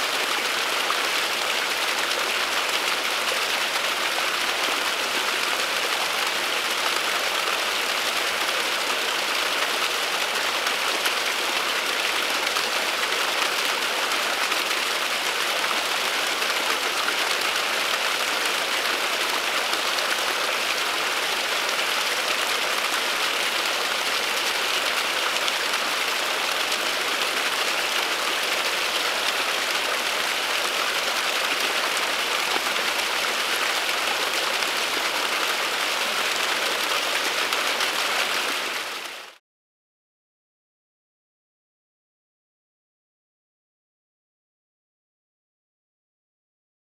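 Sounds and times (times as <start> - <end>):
small waterfall splashing: 0.0 - 39.4.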